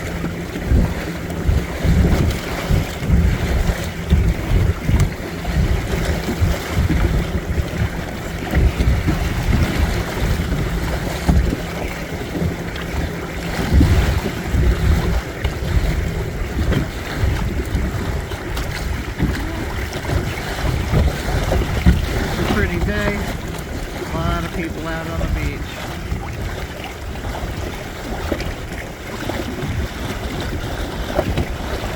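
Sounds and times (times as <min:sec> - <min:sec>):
water washing along hull: 0:00.0 - 0:31.9
wind buffeting microphone: 0:00.0 - 0:31.9.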